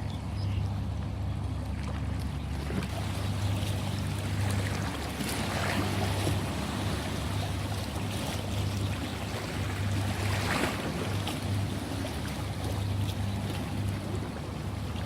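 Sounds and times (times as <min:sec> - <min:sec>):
ocean waves washing on shore: 0:01.6 - 0:15.0.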